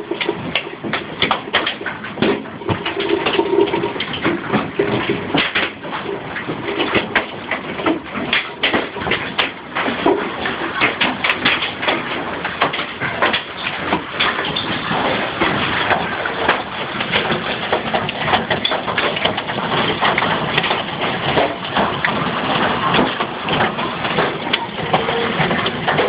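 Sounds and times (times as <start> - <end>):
hailstones pelting a house: 0.0 - 26.0.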